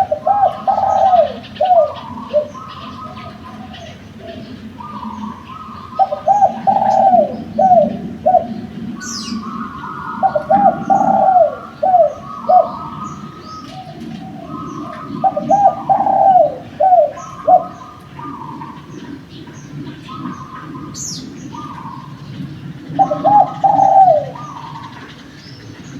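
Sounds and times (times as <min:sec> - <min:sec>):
dove cooing: 0:00.0 - 0:25.9
small birds chirping: 0:00.0 - 0:25.9.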